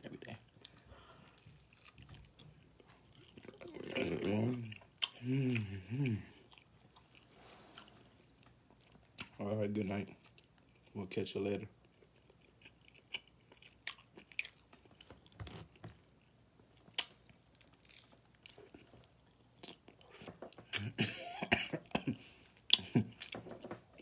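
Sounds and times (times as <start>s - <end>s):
man chewing and lip smacking: 0.4s - 9.4s, 10.1s - 11.0s, 11.8s - 21.0s, 21.8s - 24.0s.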